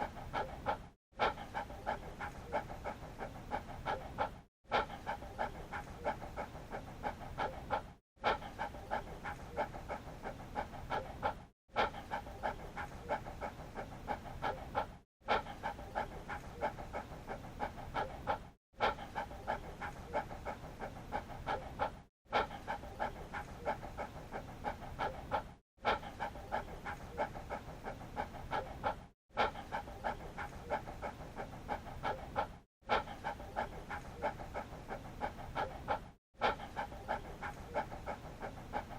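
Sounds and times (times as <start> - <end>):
dog panting: 0.0 - 38.9.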